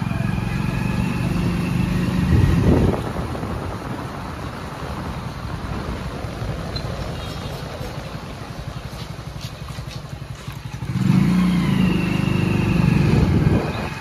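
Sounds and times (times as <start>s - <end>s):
low street rumble: 0.0s - 14.0s
vehicle engine running: 0.0s - 14.0s.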